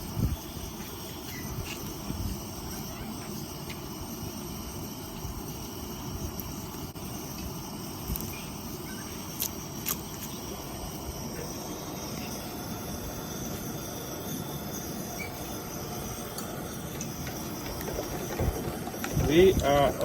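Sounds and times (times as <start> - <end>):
gas stove burning: 0.0 - 20.0.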